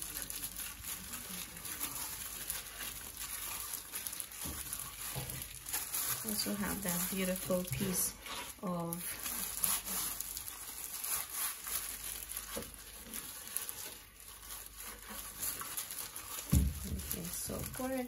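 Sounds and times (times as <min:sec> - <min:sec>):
plastic gloves crinkling: 0:00.0 - 0:18.0.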